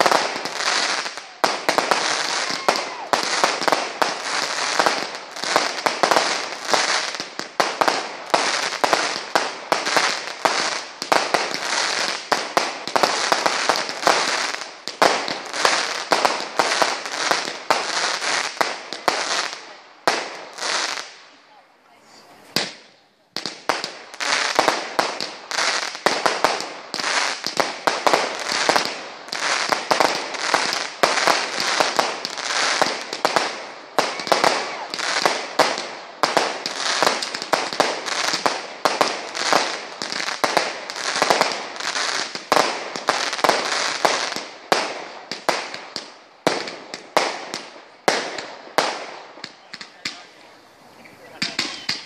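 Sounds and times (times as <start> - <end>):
crackling sparks: 0.0 - 20.4, 23.4 - 50.5, 51.3 - 52.0
fireworks cake shots bursting: 0.0 - 21.2, 22.4 - 52.0.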